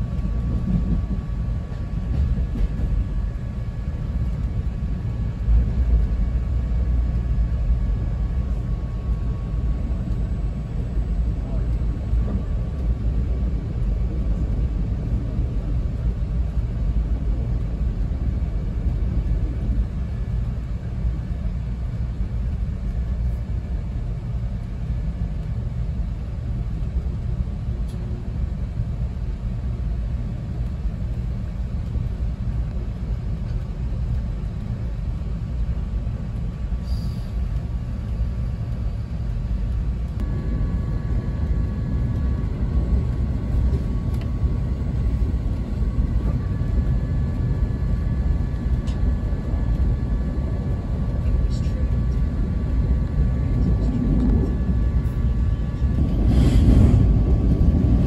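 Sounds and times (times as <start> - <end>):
passing train: 0.0 - 58.0
train rumble from inside: 0.0 - 58.0.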